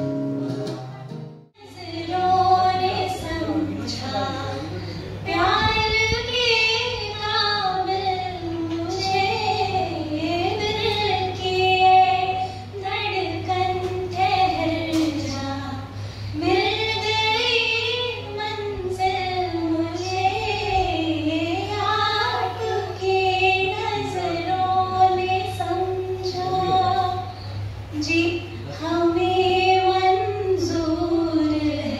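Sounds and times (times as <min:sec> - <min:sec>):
steady low hum: 0:00.0 - 0:31.9
woman singing unaccompanied: 0:01.6 - 0:31.9.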